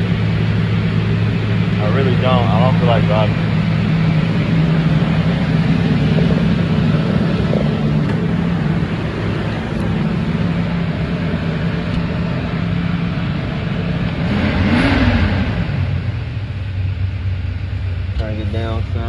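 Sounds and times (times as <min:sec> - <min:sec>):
car engine idling from inside: 0:00.0 - 0:14.4, 0:15.4 - 0:19.0.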